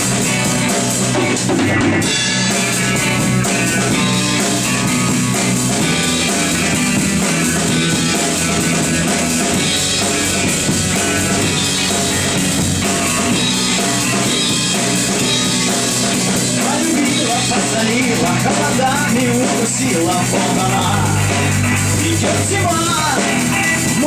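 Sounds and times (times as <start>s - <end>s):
drum kit: 0.0s - 24.0s
rock guitar: 0.0s - 24.0s.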